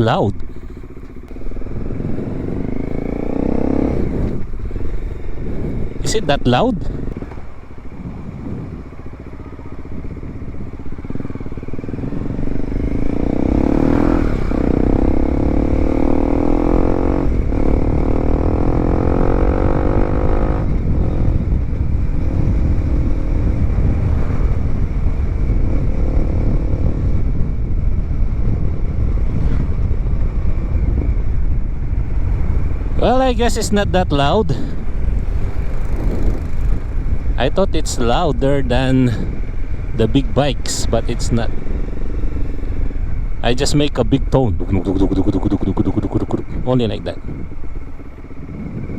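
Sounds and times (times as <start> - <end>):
motorcycle engine revving through gears: 0.4 - 6.1, 7.0 - 33.0, 34.7 - 37.4, 38.5 - 43.6.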